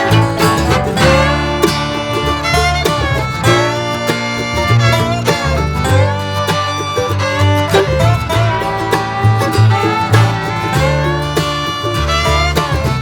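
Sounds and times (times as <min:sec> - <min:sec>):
upbeat bluegrass music: 0:00.0 - 0:13.0.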